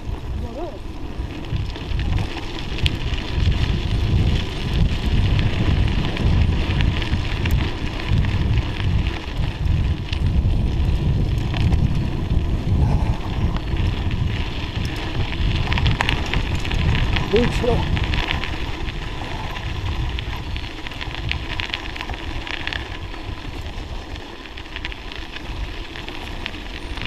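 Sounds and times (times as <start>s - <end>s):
bicycle tyres crackling on snow: 0.0s - 27.0s
wind buffeting microphone: 0.0s - 27.0s.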